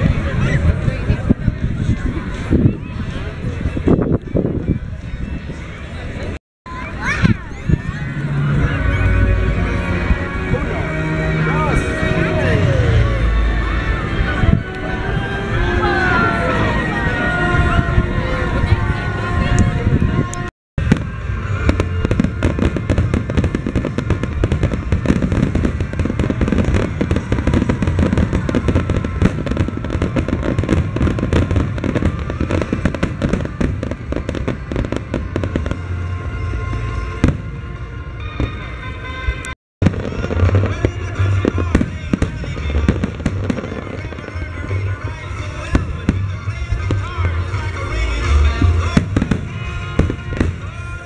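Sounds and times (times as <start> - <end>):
fireworks bursting: 6.9 - 51.0.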